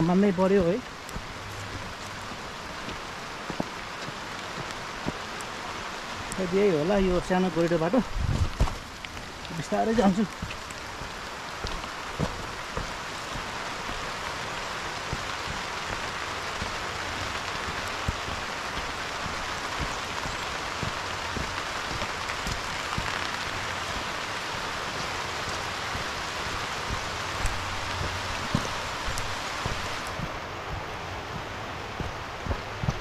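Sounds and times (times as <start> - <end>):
rain falling on vegetation: 0.0 - 33.0.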